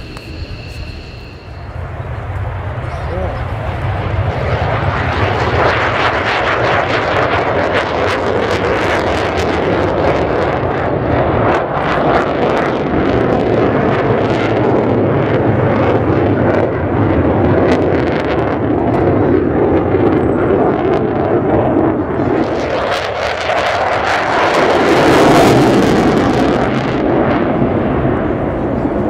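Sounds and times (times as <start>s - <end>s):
jet engine roar with crackling: 0.0s - 29.0s.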